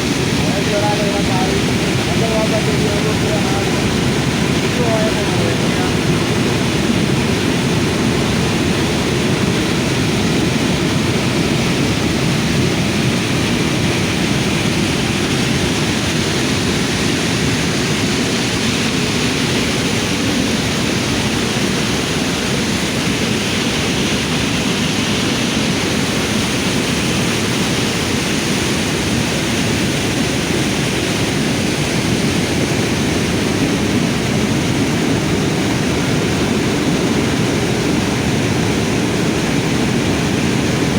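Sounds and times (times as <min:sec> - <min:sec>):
floodwater rushing roar: 0:00.0 - 0:40.9.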